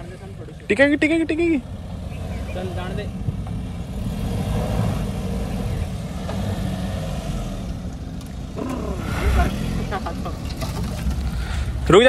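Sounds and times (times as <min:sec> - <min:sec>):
car engine rumbling under load: 0:00.0 - 0:12.0.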